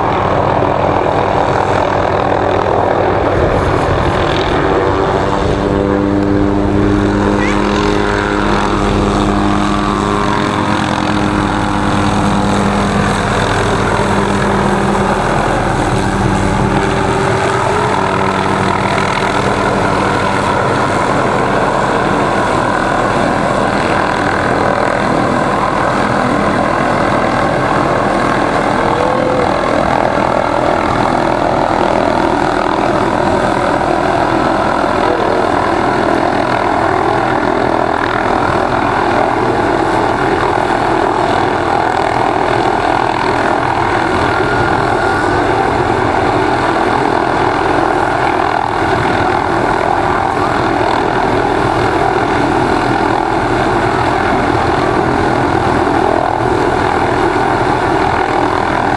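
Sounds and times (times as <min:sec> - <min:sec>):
helicopter hovering: 0:00.0 - 0:58.9.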